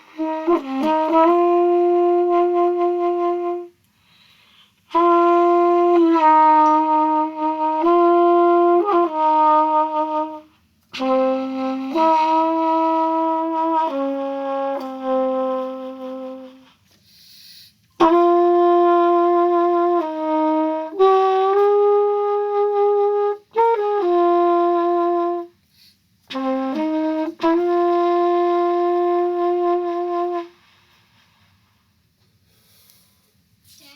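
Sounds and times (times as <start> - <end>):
trumpet playing slow phrase: 0.0 - 3.8, 4.9 - 16.8, 18.0 - 25.6, 26.3 - 31.0.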